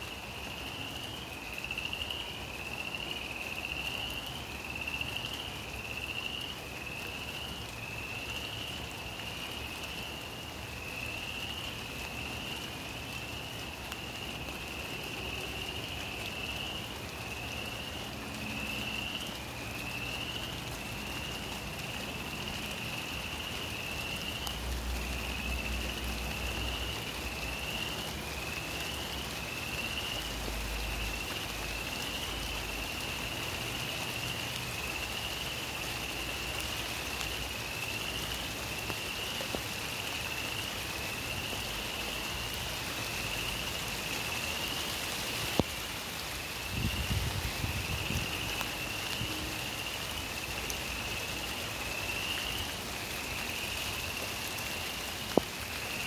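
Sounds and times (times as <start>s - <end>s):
steady rain: 0.0s - 56.0s
frogs peeping: 0.4s - 56.0s.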